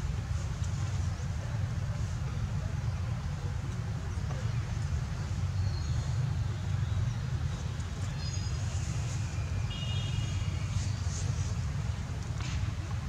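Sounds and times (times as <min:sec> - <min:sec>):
low rumble of background noise: 0:00.0 - 0:13.0.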